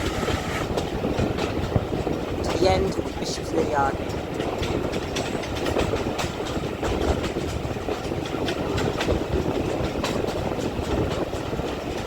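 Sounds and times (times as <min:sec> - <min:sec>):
train rumble: 0:00.0 - 0:12.0
wheels clattering over rails: 0:00.0 - 0:12.0.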